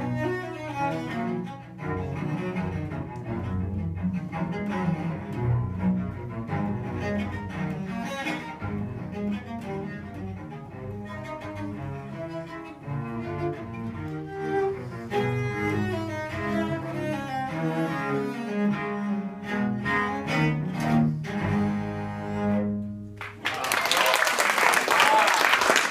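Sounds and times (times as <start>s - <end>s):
bowed cello: 0.0s - 23.4s.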